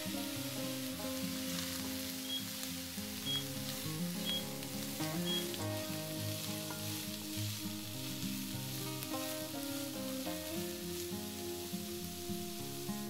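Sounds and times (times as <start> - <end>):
soft background music: 0.0 - 13.0
vegetables sizzling in a pan: 0.0 - 13.0.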